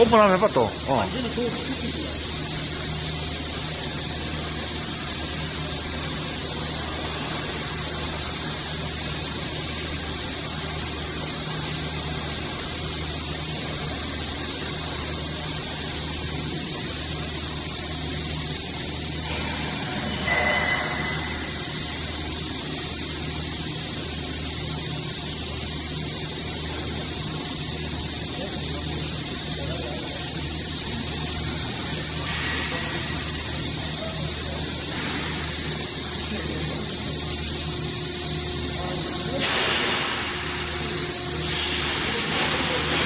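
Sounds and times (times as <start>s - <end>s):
hydraulic power unit humming: 0.0s - 43.0s.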